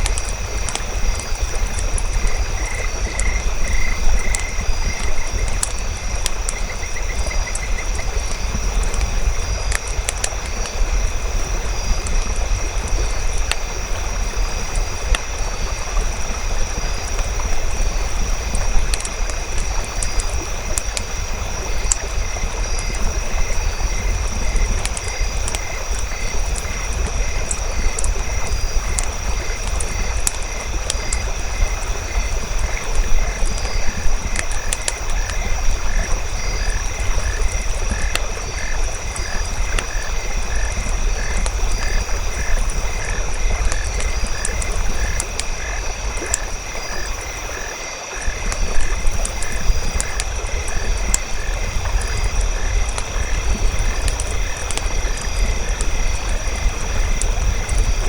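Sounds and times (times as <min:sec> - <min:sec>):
campfire crackling: 0:00.0 - 0:58.0
frogs croaking: 0:00.0 - 0:58.0.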